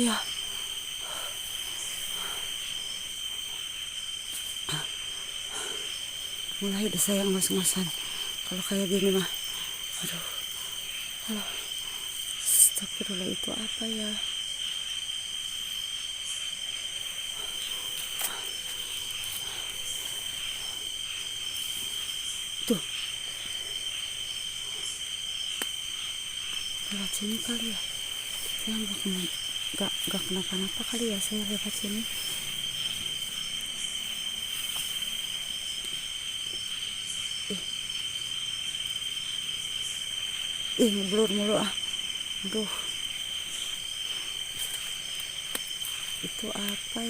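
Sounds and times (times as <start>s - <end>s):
crickets trilling: 0.0s - 47.0s
insects droning: 0.0s - 47.0s.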